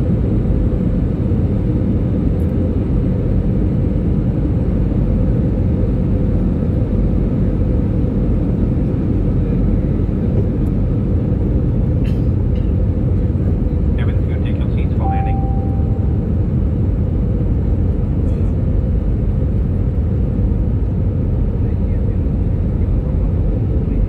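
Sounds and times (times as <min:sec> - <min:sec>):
jet cabin engine rumble: 0:00.0 - 0:24.0.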